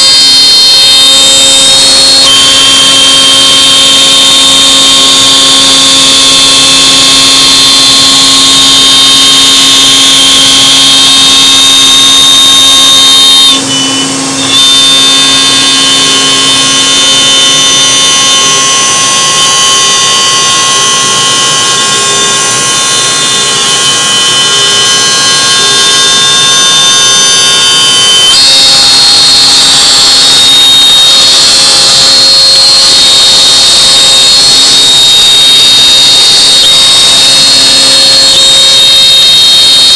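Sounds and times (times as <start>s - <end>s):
router spindle high-pitched whine: 0.0s - 39.9s.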